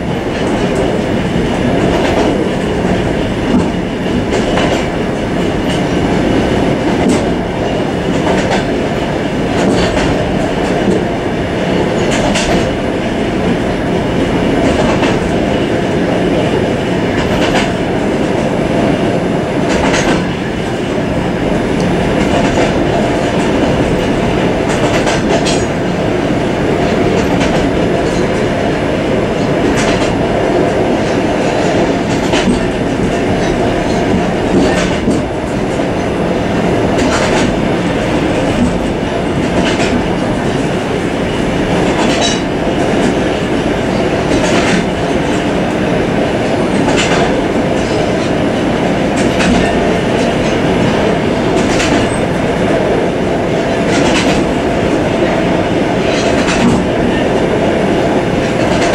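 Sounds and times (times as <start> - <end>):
wheels rumbling on rails: 0.0 - 58.9
wheels clacking over rail joints: 0.2 - 11.1, 11.7 - 12.8, 14.4 - 18.9, 19.6 - 20.8, 21.8 - 26.1, 26.8 - 28.7, 29.3 - 41.0, 41.6 - 45.9, 46.6 - 52.9, 53.6 - 57.6, 58.2 - 58.9.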